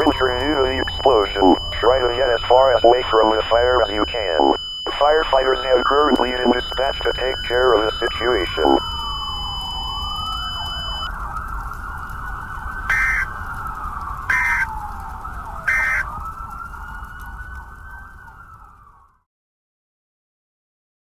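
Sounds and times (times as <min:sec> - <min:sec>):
fire engine siren wailing: 0:00.0 - 0:19.2.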